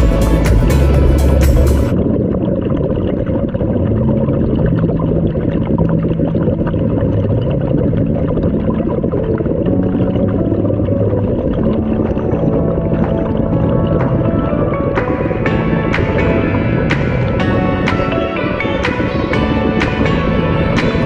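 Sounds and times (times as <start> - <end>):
music: 0.0 - 2.0, 4.0 - 21.0
muffled underwater rumble: 0.0 - 21.0
wavering hum: 0.0 - 21.0.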